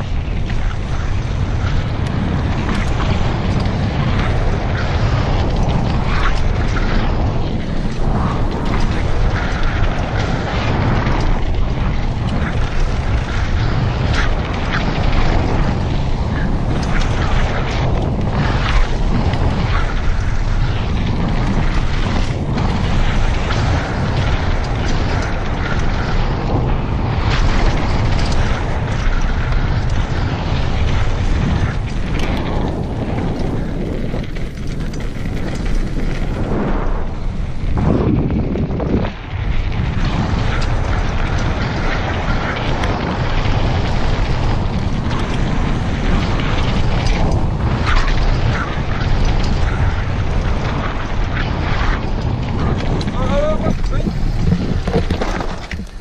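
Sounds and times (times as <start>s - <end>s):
bike ticks and rattles: 0.0s - 56.0s
tyre noise on dirt: 0.0s - 56.0s
wind buffeting on microphone: 0.0s - 56.0s.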